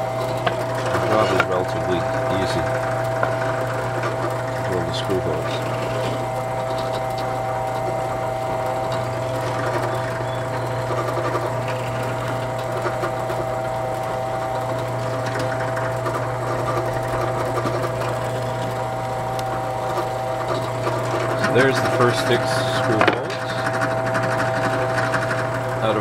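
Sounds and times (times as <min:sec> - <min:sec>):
drill press drilling wood: 0:00.0 - 0:26.0.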